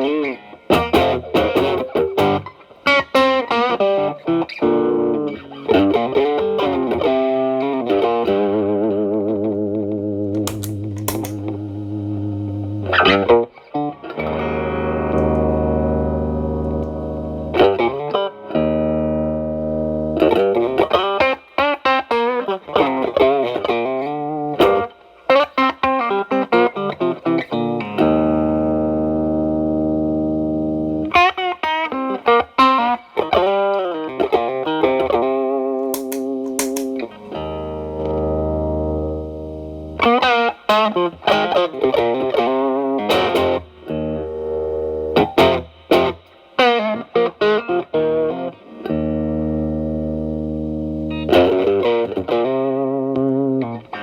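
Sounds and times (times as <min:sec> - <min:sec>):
overdriven electric guitar blues: 0:00.0 - 0:54.0.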